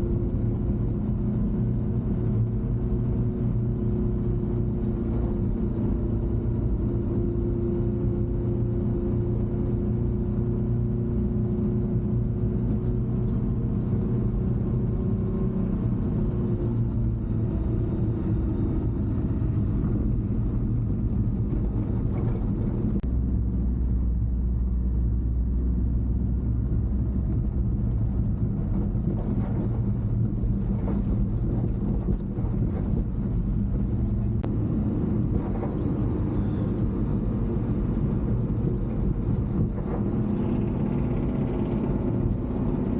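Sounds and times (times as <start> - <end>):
road rumble: 0.0 - 42.9
small truck engine driving: 0.0 - 42.9.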